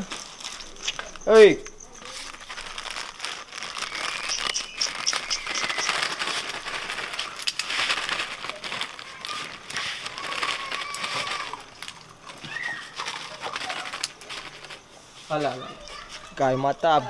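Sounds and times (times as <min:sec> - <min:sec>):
plastic packet crinkling: 0:00.0 - 0:16.5.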